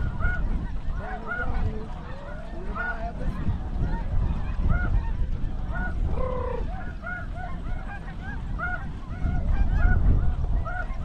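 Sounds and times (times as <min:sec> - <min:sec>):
geese honking: 0:00.0 - 0:11.0
wind rumble on microphone: 0:00.0 - 0:11.0.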